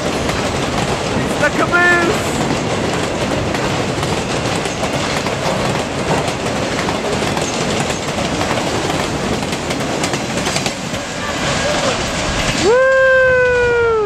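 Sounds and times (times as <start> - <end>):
wheels clickety-clack: 0.0 - 13.0
train wheels rumbling on rails: 0.0 - 14.0.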